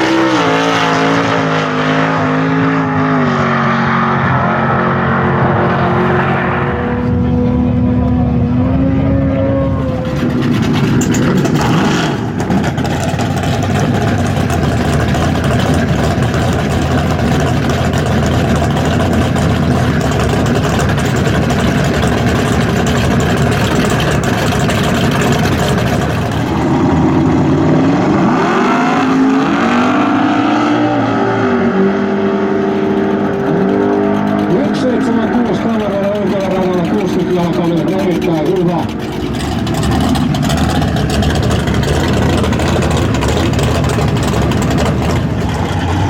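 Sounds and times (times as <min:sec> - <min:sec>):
muscle car engine revving: 0:00.0 - 0:46.0.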